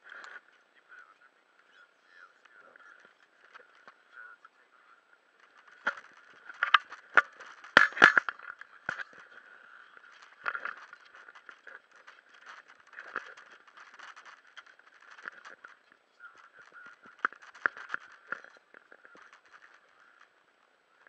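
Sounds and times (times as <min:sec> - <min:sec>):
muffled hiss: 0:00.0 - 0:21.0.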